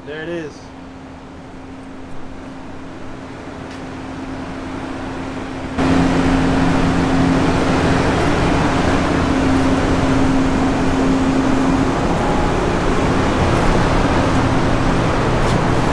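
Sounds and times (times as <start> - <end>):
low steady hum: 0.6 - 15.9.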